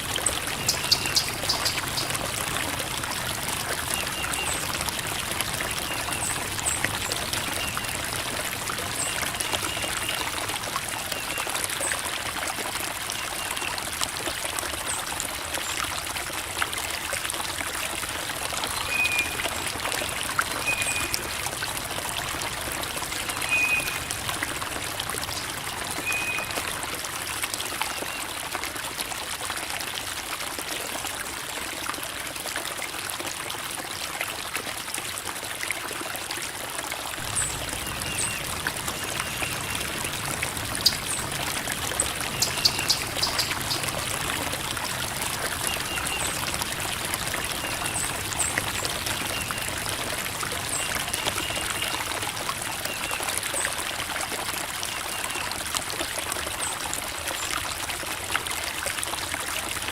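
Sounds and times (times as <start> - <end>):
creek water babbling over rocks: 0.0 - 59.9.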